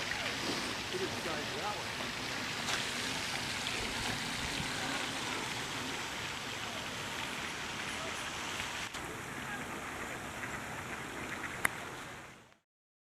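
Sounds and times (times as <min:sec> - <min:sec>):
water hissing: 0:00.0 - 0:12.2.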